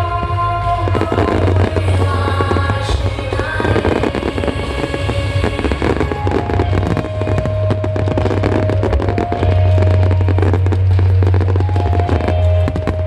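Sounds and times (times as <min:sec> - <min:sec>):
deep low rumble: 0:00.0 - 0:13.0
fireworks bursting and crackling: 0:00.0 - 0:13.0
music: 0:00.0 - 0:13.0.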